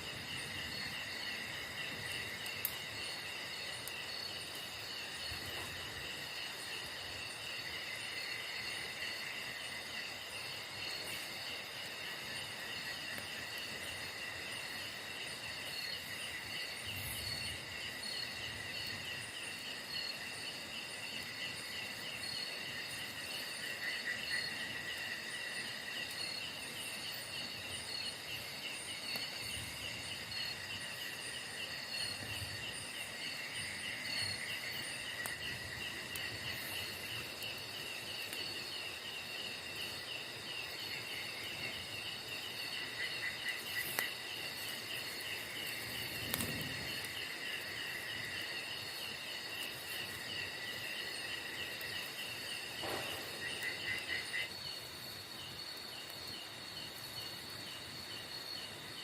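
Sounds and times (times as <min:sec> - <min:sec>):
crickets trilling: 0:00.0 - 0:59.0
high pulsing insect trill: 0:00.0 - 0:59.0.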